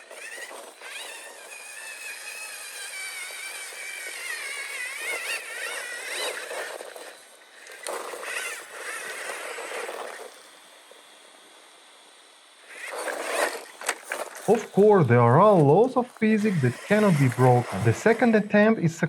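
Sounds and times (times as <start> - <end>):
rc car electric motor whining: 0.0 - 19.0.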